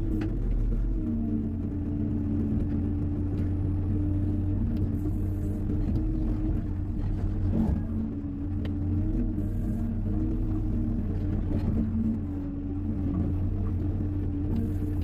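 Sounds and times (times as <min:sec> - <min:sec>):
excavator diesel engine running: 0:00.0 - 0:15.0
faint clicks and knocks: 0:00.0 - 0:15.0.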